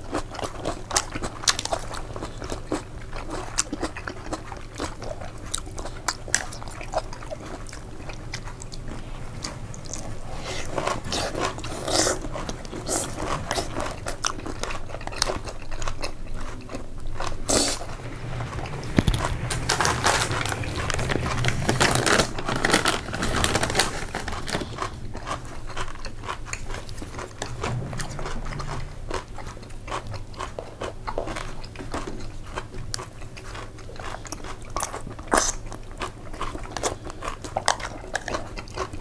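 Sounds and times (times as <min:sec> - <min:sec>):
person chewing pasta: 0:00.0 - 0:39.0.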